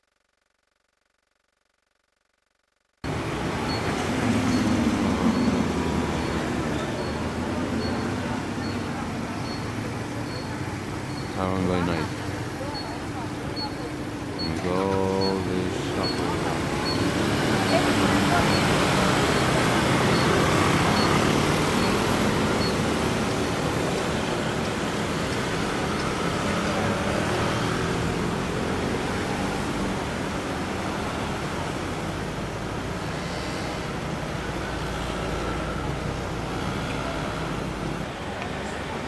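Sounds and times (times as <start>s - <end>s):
scooters and cars passing: 3.0s - 39.0s.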